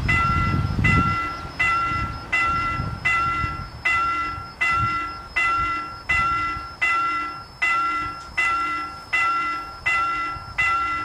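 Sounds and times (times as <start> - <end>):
level-crossing warning bell ringing: 0.0 - 11.0.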